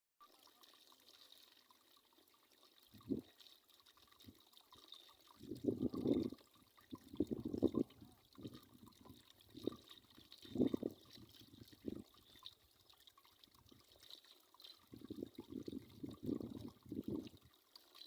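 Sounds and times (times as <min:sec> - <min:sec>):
water splashing and sloshing: 0:00.3 - 0:18.0.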